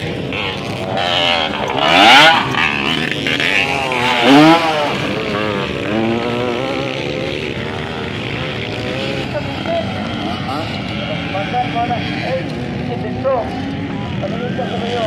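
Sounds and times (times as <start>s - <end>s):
dirt bike engines revving: 0.0s - 15.0s
dirt bike passing by: 0.0s - 15.0s.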